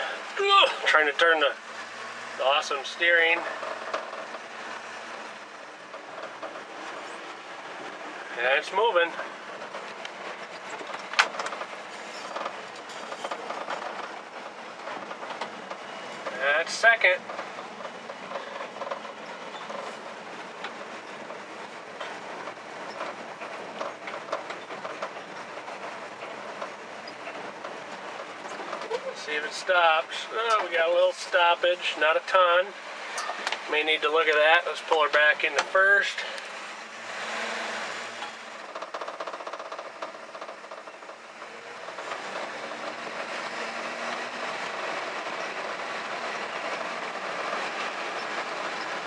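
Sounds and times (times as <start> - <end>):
pickup truck engine rumbling: 0.0 - 49.0
truck clanks and rattles: 0.0 - 49.0.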